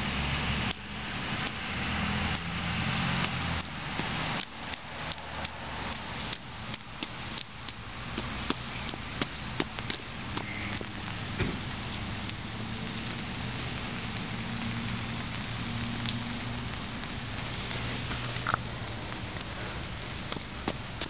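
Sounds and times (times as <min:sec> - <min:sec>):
rain on wet pavement: 0:00.0 - 0:21.0.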